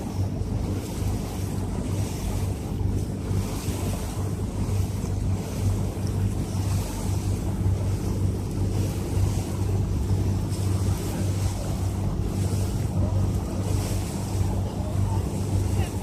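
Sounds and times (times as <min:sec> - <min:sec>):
motorboat engine humming: 0:00.0 - 0:16.0
water around hull: 0:00.0 - 0:16.0
wind on microphone: 0:00.0 - 0:16.0.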